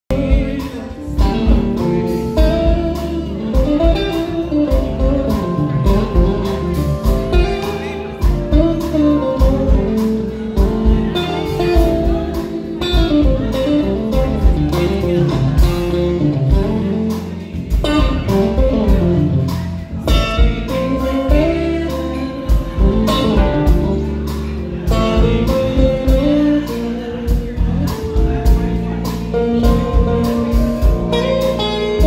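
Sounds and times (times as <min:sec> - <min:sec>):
live band playing: 0:00.1 - 0:32.0.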